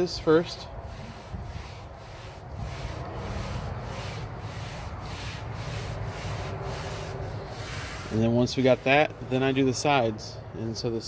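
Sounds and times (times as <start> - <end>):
towel rubbing on metal griddle: 0.0 - 9.1
low steady rumble: 0.0 - 11.0.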